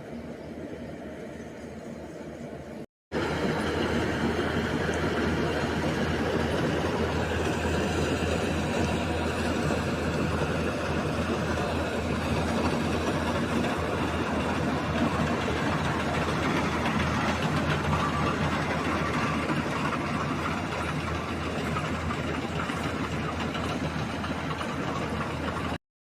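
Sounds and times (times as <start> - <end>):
combine harvester engine droning: 0.0 - 25.8.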